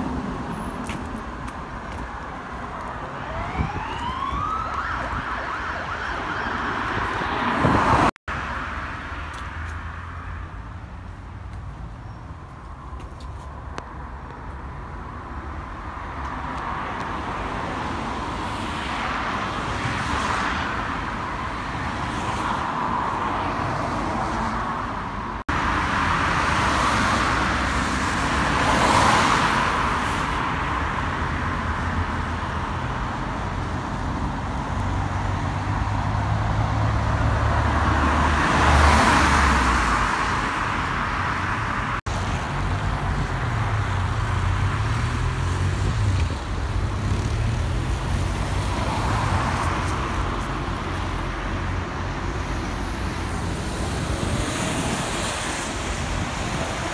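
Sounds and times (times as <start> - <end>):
cars passing by: 0.0 - 56.9.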